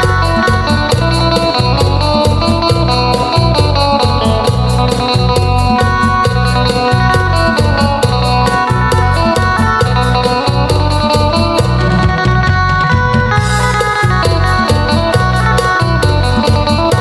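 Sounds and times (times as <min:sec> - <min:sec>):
deep bass line: 0:00.0 - 0:17.0
fast drum beat: 0:00.0 - 0:17.0
plucked lute melody: 0:00.0 - 0:17.0.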